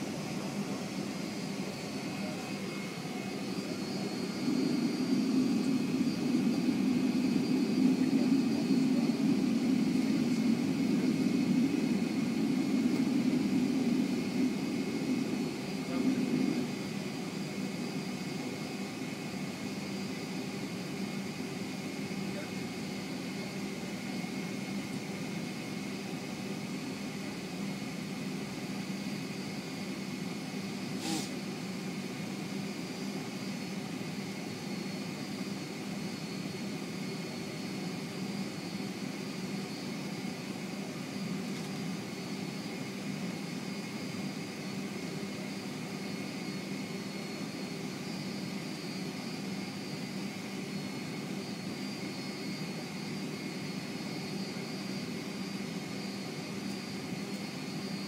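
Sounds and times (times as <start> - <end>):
jet engine rumble and whine: 0.0 - 58.0.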